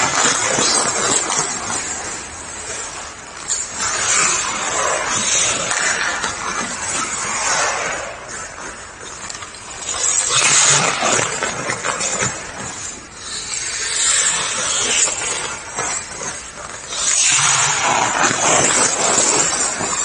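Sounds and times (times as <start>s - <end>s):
skate blades scraping ice: 0.0s - 20.0s.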